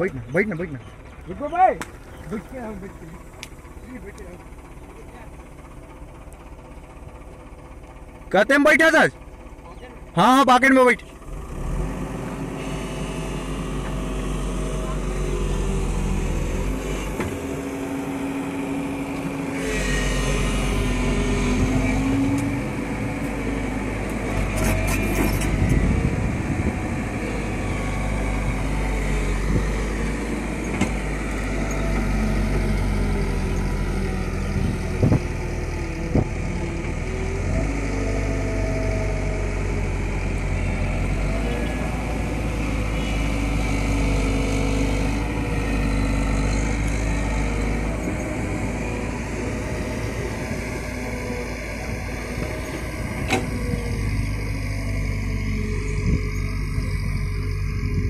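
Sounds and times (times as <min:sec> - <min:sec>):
excavator diesel engine digging: 0:00.0 - 0:58.0.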